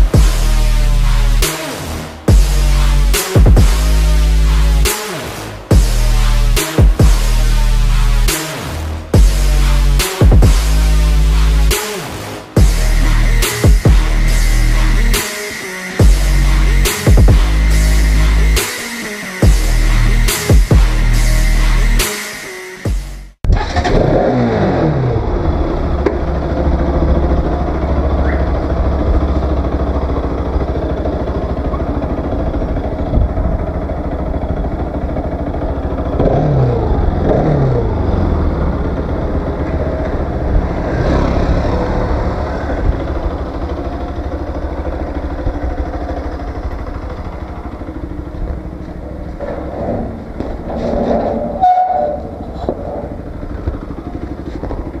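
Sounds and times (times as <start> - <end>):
motorcycle engine running: 0.0 - 15.4, 16.0 - 18.6, 23.5 - 55.0.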